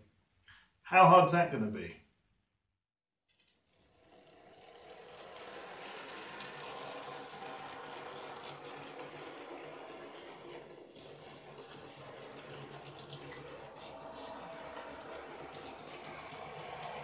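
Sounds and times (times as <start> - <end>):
model locomotive whirring: 3.3 - 17.0.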